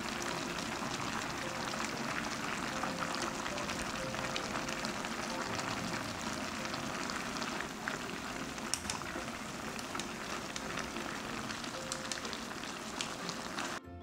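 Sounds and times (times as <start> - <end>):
sauce bubbling and sizzling in pot: 0.0 - 13.8.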